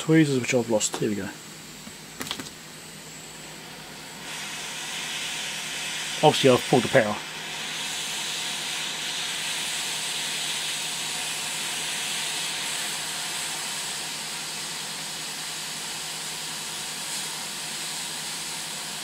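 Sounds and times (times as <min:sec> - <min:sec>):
hot air hissing: 0:02.6 - 0:19.0.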